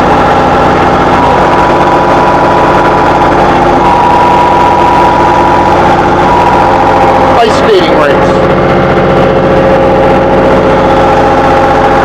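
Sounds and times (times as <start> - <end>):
high-pitched whine: 0.0 - 12.0
vehicle engine running: 0.0 - 12.0.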